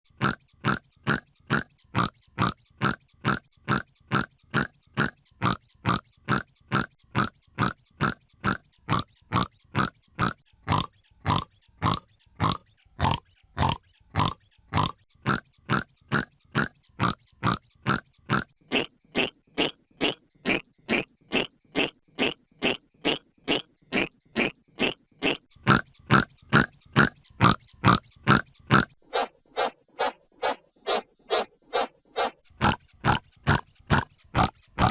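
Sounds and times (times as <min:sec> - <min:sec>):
hiccup sound effect: 0:00.2 - 0:25.8, 0:26.6 - 0:34.9.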